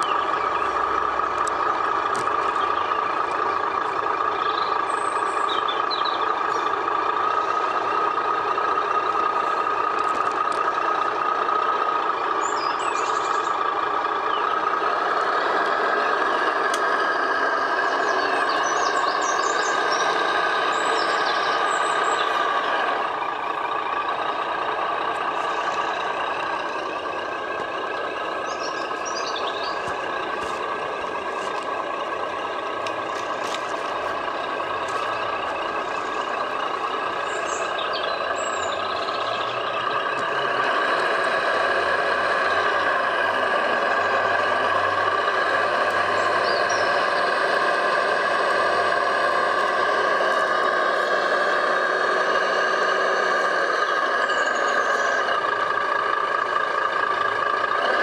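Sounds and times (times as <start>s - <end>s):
birds chirping: 0.0s - 58.0s
simulated diesel truck engine: 0.0s - 58.0s.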